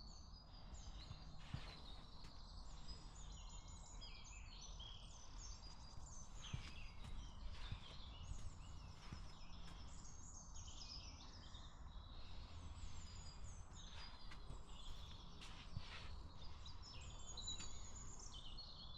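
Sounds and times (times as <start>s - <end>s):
small birds chirping and trilling: 0.0s - 18.9s.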